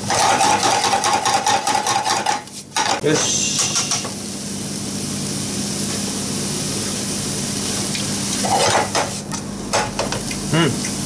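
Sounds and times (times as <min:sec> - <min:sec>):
leaves sizzling in a frying pan: 0:00.0 - 0:11.0.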